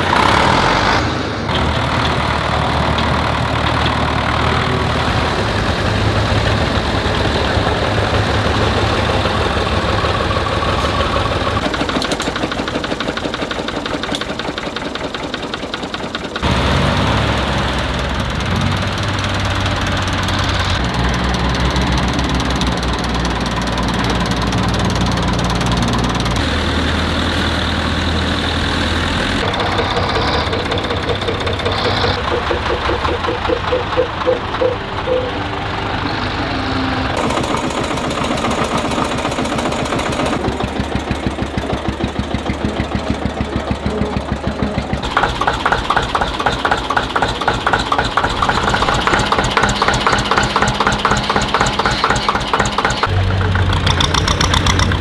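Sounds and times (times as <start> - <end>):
tractor engines running: 0.0 - 55.0.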